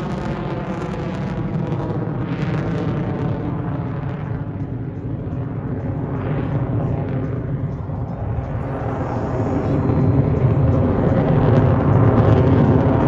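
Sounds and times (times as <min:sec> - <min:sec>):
loud jet noise: 0:00.0 - 0:13.0.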